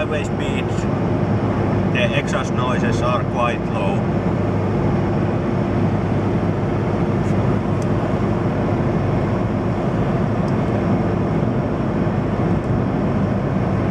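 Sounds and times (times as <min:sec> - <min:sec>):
low diesel engine drone: 0:00.0 - 0:13.9
wind and road noise: 0:00.0 - 0:13.9.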